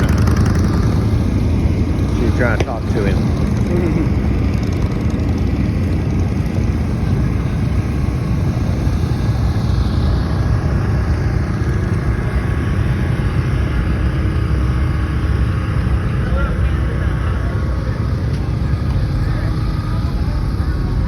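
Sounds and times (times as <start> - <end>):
motorboat engine rumbling: 0.0 - 21.0.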